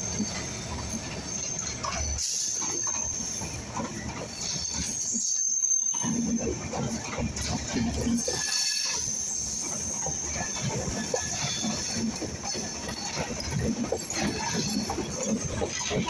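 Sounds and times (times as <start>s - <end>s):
high wheel squeal: 0.0s - 16.0s
train wheels rumbling on rails: 0.0s - 16.0s.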